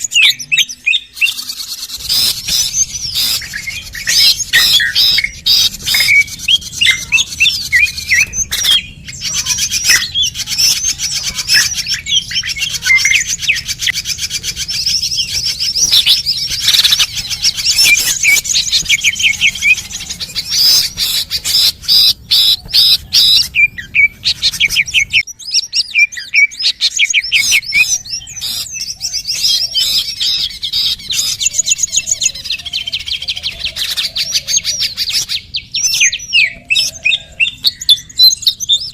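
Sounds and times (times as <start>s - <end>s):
small songbirds chirping and trilling: 0.0s - 38.9s.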